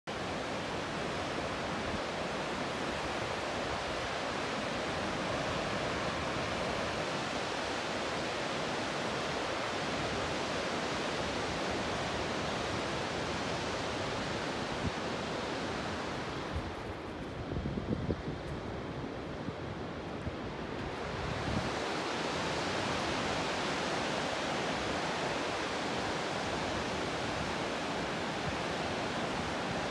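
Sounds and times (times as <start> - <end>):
ocean surf breaking on beach: 0.1 - 29.9.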